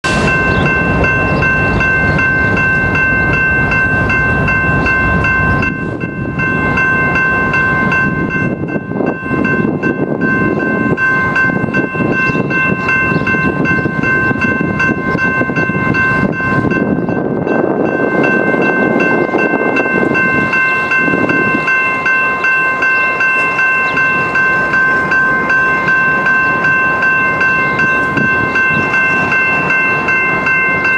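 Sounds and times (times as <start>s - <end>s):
low rumble of train: 0.0s - 30.9s
railroad crossing bell ringing: 0.0s - 30.9s.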